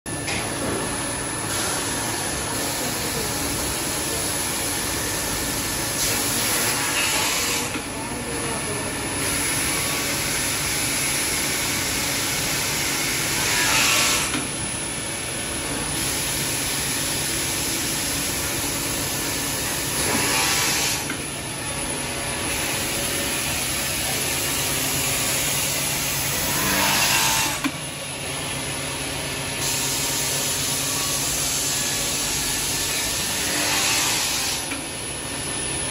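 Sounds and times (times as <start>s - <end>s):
steady machine running noise: 0.1s - 35.9s.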